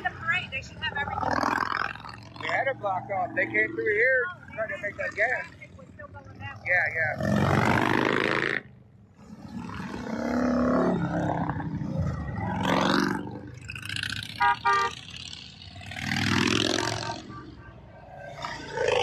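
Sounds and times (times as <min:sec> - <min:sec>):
motorcycles revving past: 0:00.0 - 0:19.0.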